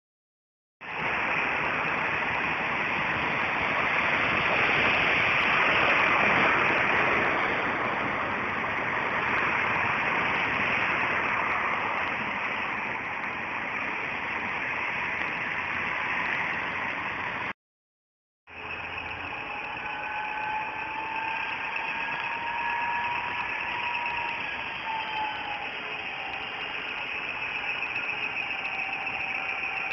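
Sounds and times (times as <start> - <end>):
traffic on wet road: 0.8 - 17.5, 18.5 - 29.9.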